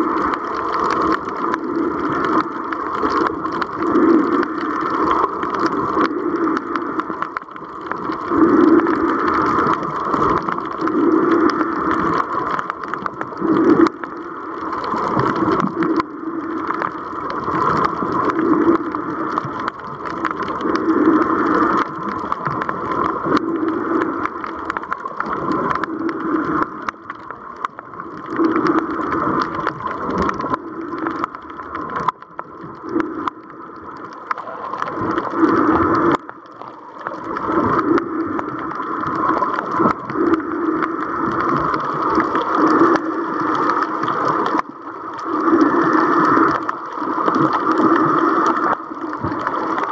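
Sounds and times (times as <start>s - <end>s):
muffled underwater rushing drone: 0.0s - 49.9s.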